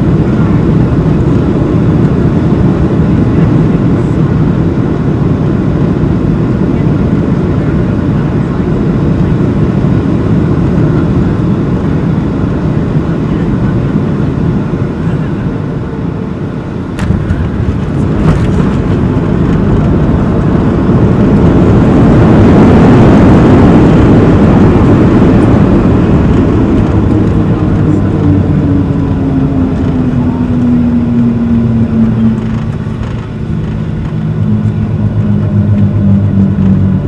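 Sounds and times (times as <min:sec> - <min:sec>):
aircraft cabin rumble: 0:00.0 - 0:37.0.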